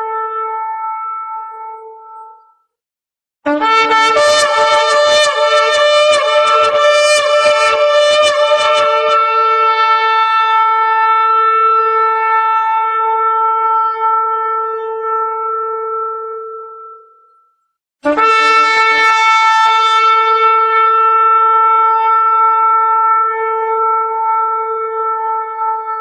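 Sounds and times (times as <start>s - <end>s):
horn blowing: 3.5s - 17.3s, 18.0s - 26.0s.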